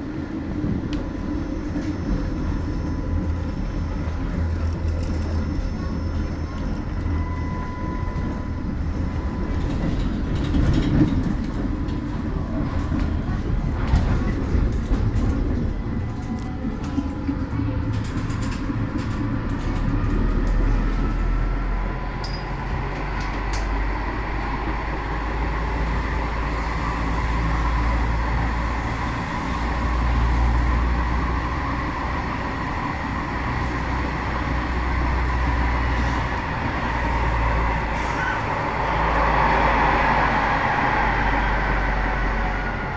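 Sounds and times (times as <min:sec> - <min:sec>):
tram wheels rumbling on rails: 0:00.0 - 0:42.9.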